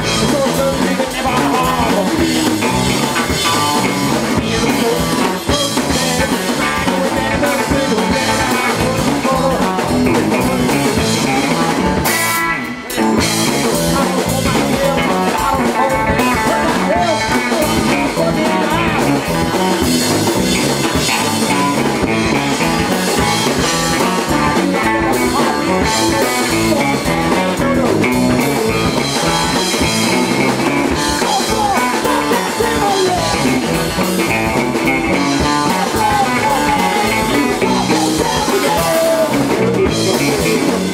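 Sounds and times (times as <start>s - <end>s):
punk rock band playing live: 0.0s - 40.9s.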